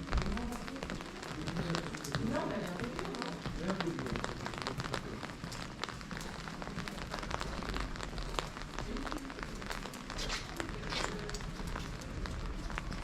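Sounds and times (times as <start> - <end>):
raindrops pattering: 0.0 - 13.0
steady rain hiss: 0.0 - 13.0.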